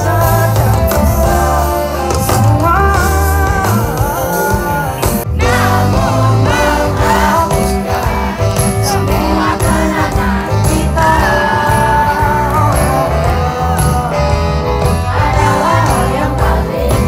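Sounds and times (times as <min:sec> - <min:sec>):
live pop song over a pa: 0:00.0 - 0:17.0.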